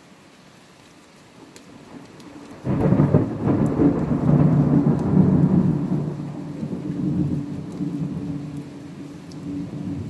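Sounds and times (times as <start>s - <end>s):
rain falling: 0.0s - 10.0s
thunder rumbling: 1.8s - 10.0s.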